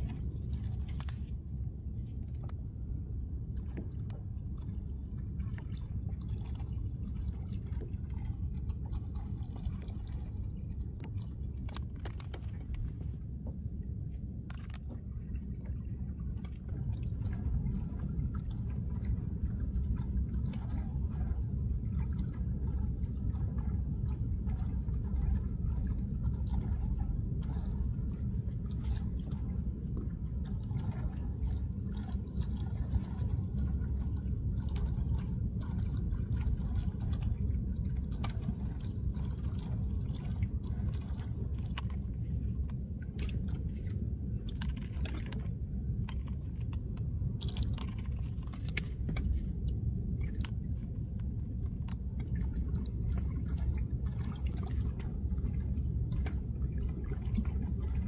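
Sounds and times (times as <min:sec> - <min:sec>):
small waves lapping and splashing: 0:00.0 - 0:58.0
wind rumbling on microphone: 0:00.0 - 0:58.0.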